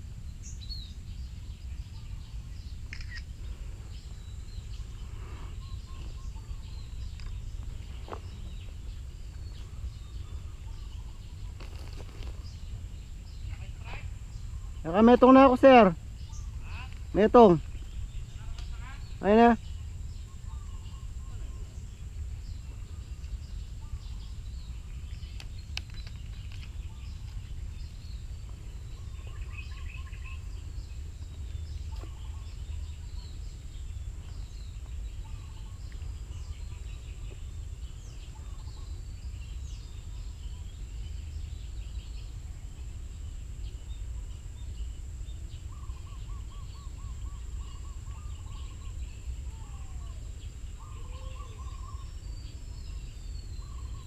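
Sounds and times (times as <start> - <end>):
birds calling and chirping: 0.0 - 54.0
steady low rumble: 0.0 - 54.0.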